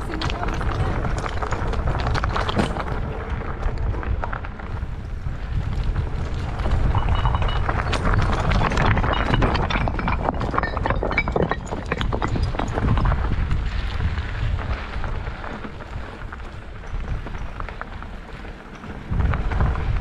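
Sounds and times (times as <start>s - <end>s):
mountain bike rattling over gravel: 0.0s - 20.0s
wind rumble on microphone: 0.0s - 20.0s.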